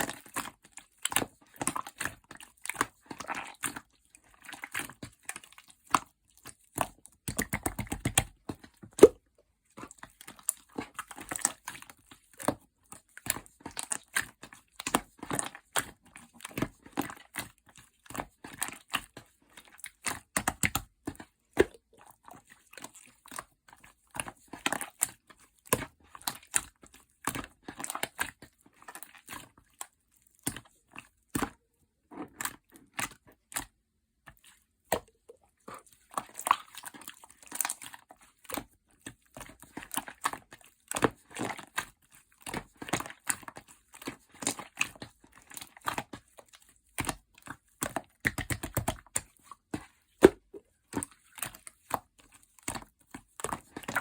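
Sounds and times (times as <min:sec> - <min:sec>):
slime squishing with sticky clicks: 0:00.0 - 0:54.0.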